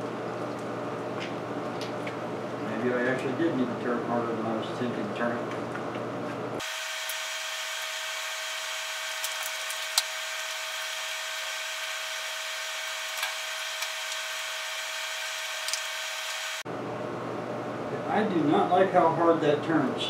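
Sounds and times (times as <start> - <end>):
steady high hum: 0.0 - 20.0.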